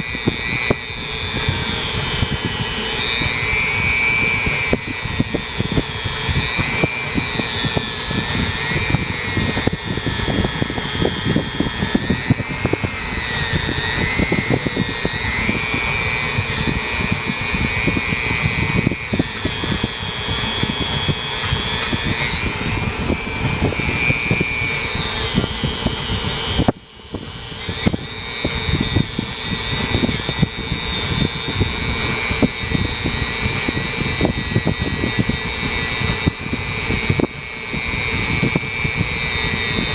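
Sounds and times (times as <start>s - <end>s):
rotary tool whining: 0.0s - 39.9s.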